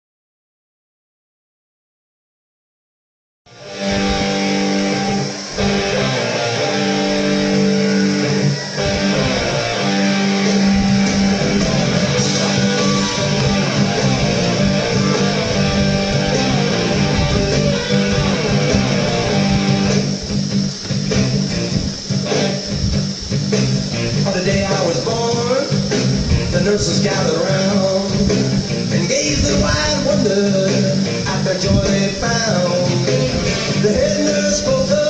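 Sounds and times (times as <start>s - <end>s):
blues electric guitar with bass: 3.5s - 35.0s.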